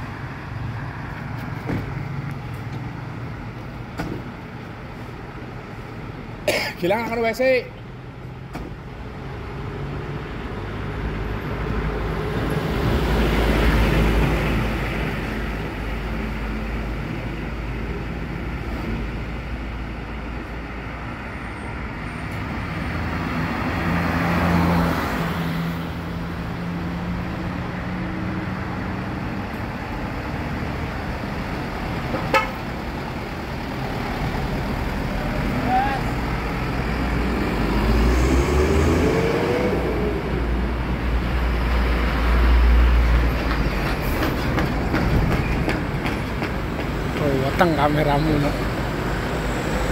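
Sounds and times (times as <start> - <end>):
vehicles passing with engine rumble: 0.0 - 49.9.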